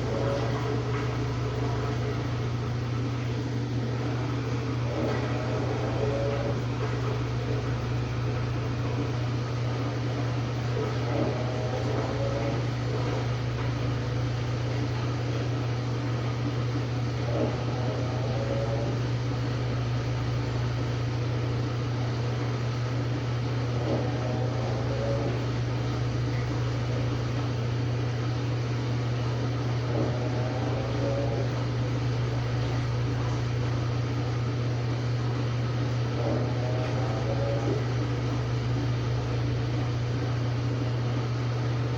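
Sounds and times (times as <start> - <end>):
washing machine motor hum: 0.0 - 41.9.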